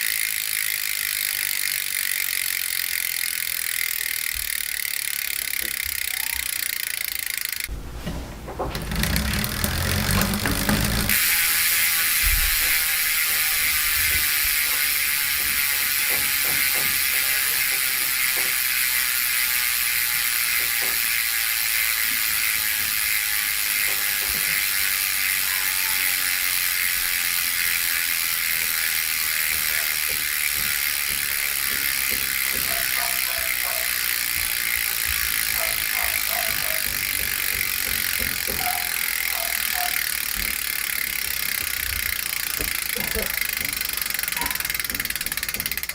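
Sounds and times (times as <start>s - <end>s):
bicycle hub ratcheting buzz: 0.0s - 7.8s, 8.6s - 45.9s.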